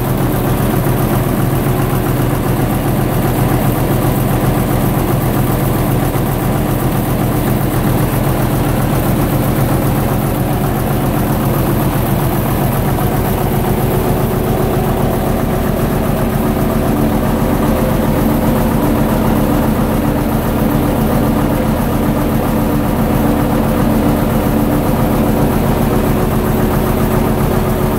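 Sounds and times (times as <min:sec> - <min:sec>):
diesel generator running: 0:00.0 - 0:27.9.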